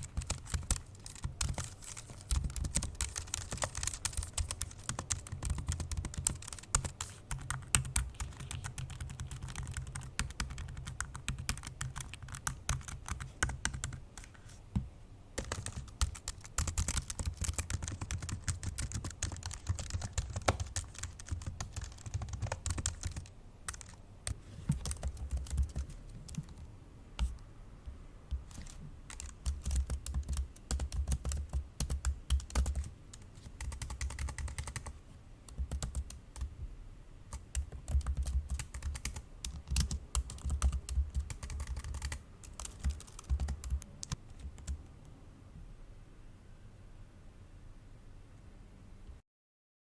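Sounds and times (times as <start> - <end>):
fast laptop keyboard typing: 0.0 - 14.3, 15.4 - 27.4, 28.3 - 36.6, 37.3 - 44.8.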